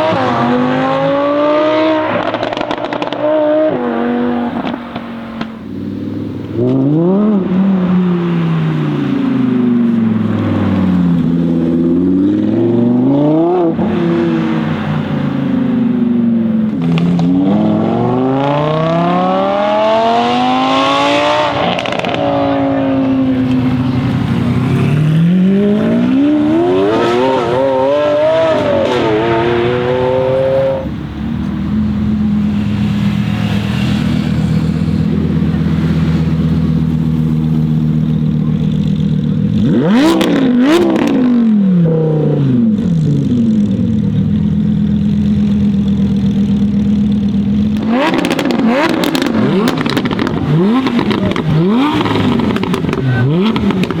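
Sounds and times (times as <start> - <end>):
exhaust crackles: 0.0 - 54.0
sports car engine revving: 0.0 - 54.0.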